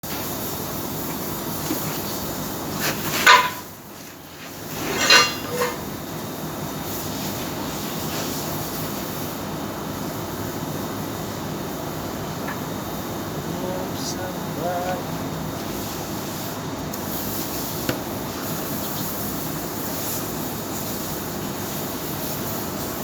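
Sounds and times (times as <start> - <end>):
steady background noise: 0.1 - 23.0.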